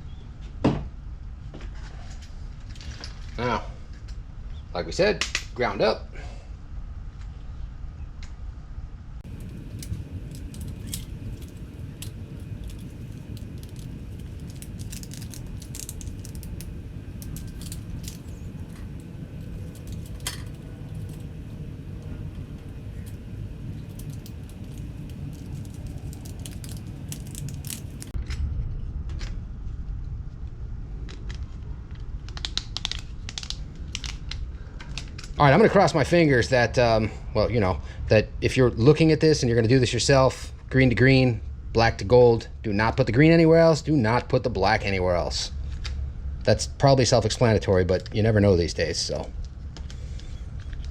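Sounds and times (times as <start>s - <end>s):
steady low rumble: 6.0s - 50.9s.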